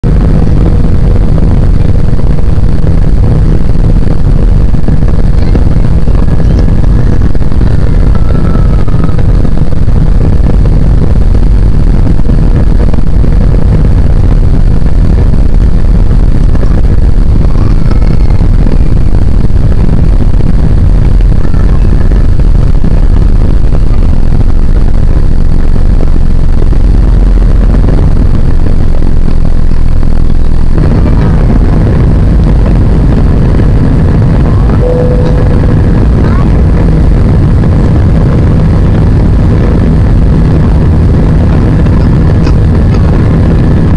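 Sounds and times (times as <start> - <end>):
jet engines at takeoff power: 0.0 - 43.9
wheels rumbling on runway: 0.0 - 43.9.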